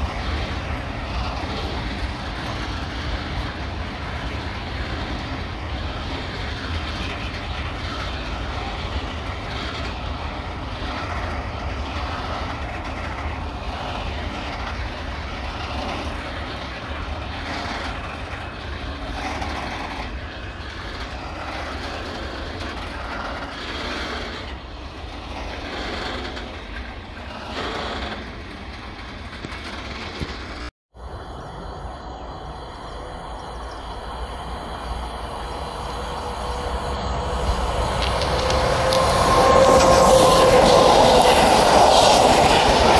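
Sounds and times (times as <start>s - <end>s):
wheels clattering over rails: 0.0s - 30.7s, 31.5s - 42.9s
train rumbling: 0.0s - 42.9s.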